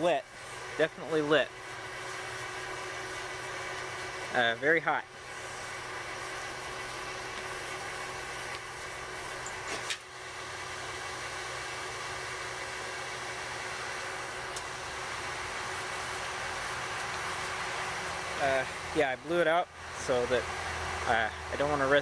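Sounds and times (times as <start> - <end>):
blowers whirring hum: 0.0 - 22.0.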